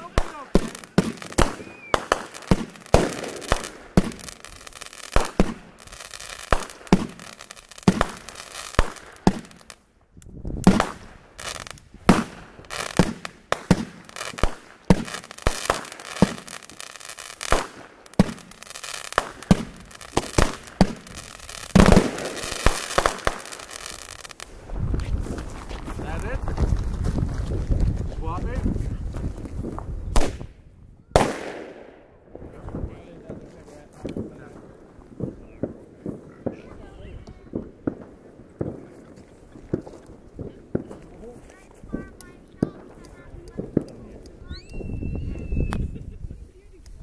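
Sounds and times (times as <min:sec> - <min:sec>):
fireworks banging and crackling: 0:00.0 - 0:30.6, 0:31.2 - 0:47.0.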